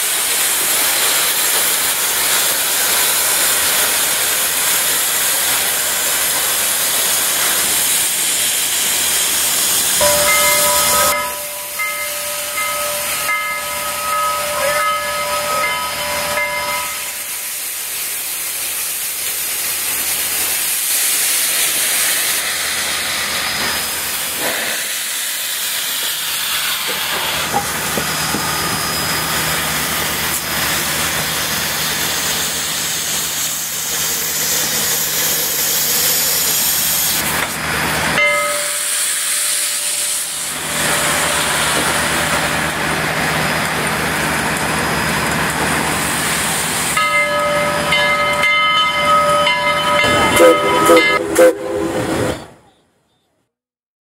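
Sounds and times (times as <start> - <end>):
steam venting hiss: 0.0 - 47.0.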